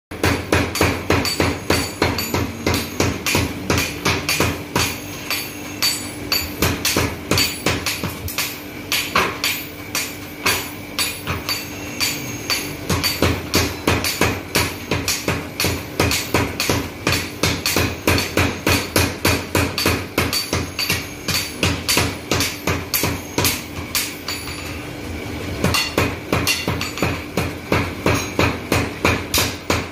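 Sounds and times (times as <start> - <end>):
steady machine hum: 0.1 - 29.9.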